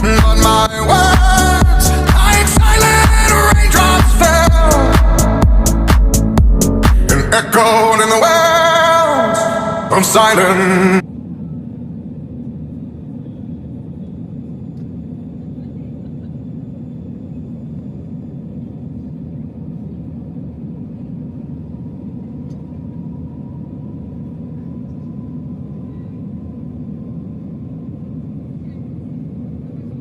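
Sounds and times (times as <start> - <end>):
airliner engine and airflow rumble: 0.0 - 6.2, 6.8 - 30.0.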